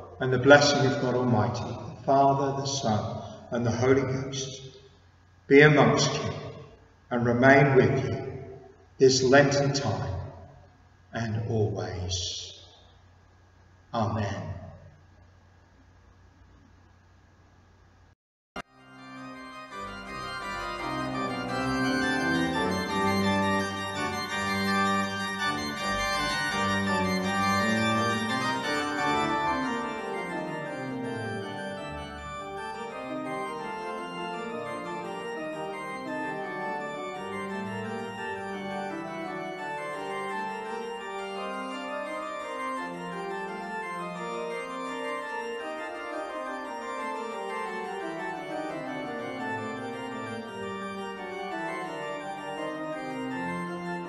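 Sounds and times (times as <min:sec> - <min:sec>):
organ playing sustained chords: 0:00.0 - 0:04.4, 0:05.5 - 0:10.4, 0:18.6 - 0:54.0.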